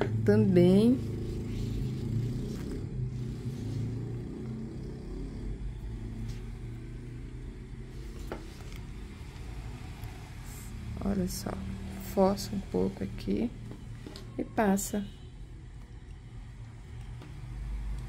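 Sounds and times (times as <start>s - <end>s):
faint hum: 0.0s - 18.0s
low steady rumble: 0.0s - 18.0s.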